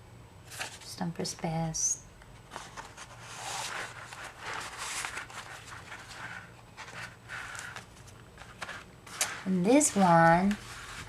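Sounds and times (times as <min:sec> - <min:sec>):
paper pages rustling and turning: 0:00.5 - 0:00.9, 0:02.4 - 0:11.0.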